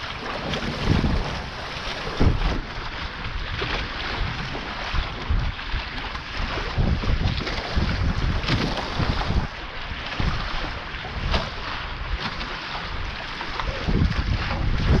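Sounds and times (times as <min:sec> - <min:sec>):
water rushing past hulls: 0:00.0 - 0:15.0
wind buffeting microphone: 0:00.0 - 0:15.0.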